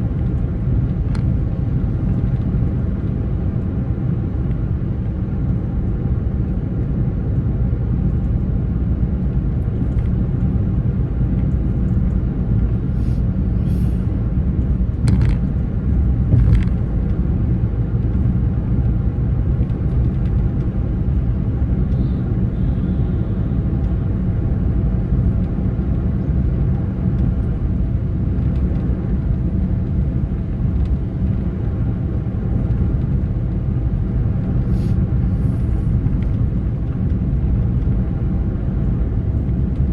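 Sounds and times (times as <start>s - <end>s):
road vehicle engine and tyre rumble: 0.0s - 39.9s.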